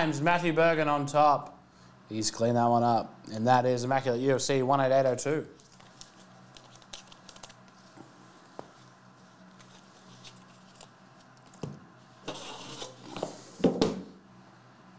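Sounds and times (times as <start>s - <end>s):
low electrical hum: 0.0s - 14.9s.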